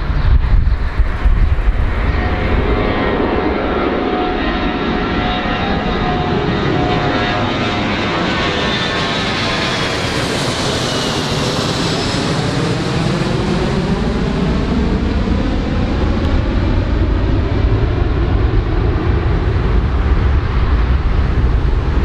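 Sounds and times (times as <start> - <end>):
airplane engines whining: 0.0 - 22.0
wind buffeting microphone: 0.0 - 22.0.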